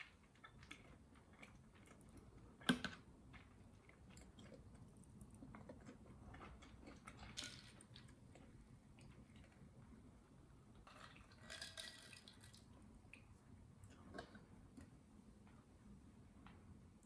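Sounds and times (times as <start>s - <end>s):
faint chewing: 0.0s - 15.7s.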